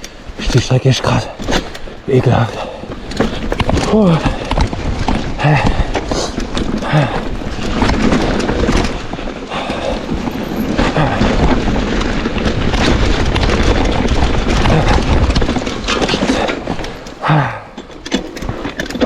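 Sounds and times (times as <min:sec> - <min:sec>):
mountain bike rattling over rocks: 0:00.0 - 0:19.0.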